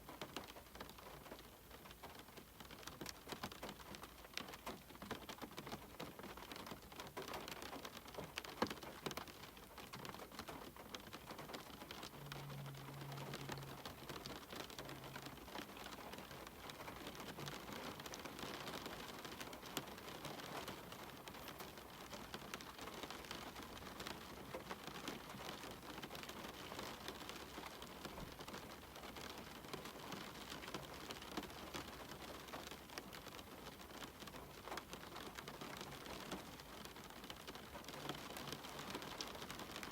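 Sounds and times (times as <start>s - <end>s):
raindrops ticking: 0.0s - 39.9s
steady rain hissing: 0.0s - 39.9s.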